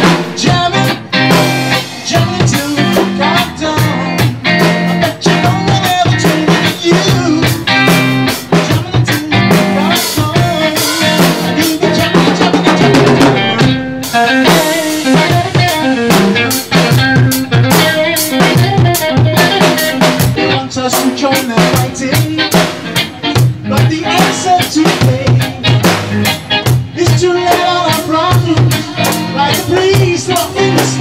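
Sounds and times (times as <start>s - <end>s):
drum kit rimshots: 0.0s - 31.0s
guitar: 0.0s - 31.0s
rock band playing: 0.0s - 31.0s.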